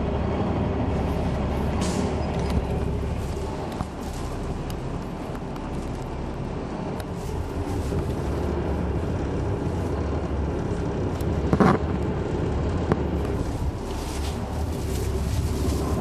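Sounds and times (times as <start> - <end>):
bus diesel engine hum: 0.0 - 16.0.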